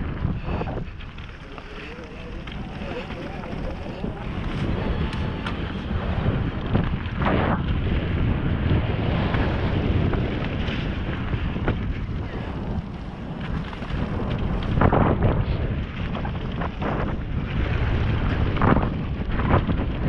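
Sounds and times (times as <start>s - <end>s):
bike tyre and frame rattle: 0.0s - 20.0s
wind on microphone: 0.0s - 20.0s.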